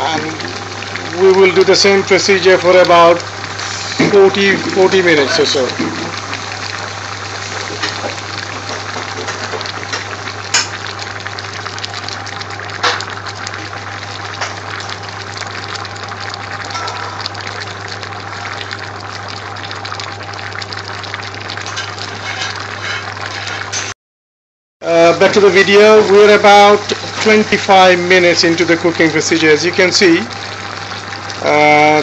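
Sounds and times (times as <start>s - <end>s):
vegetables bubbling in oil: 0.0s - 23.9s, 24.8s - 32.0s.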